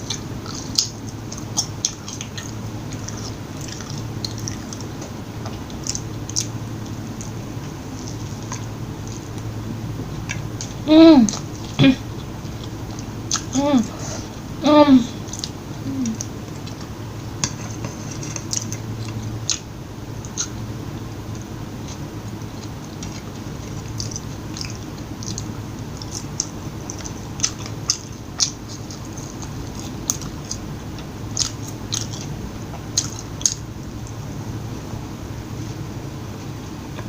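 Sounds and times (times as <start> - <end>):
close chewing with crunches: 0.0 - 13.6, 15.2 - 20.7, 21.3 - 34.2.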